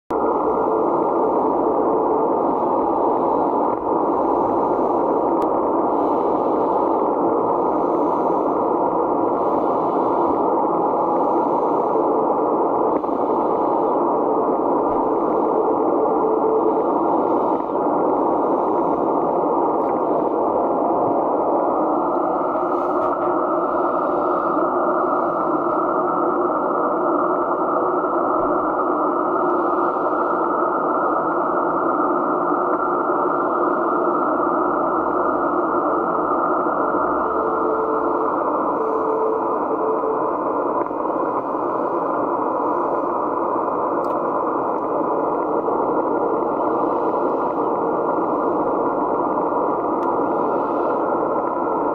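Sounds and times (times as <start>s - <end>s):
faint steady tone: 0.1s - 51.9s
radio static: 0.1s - 51.9s.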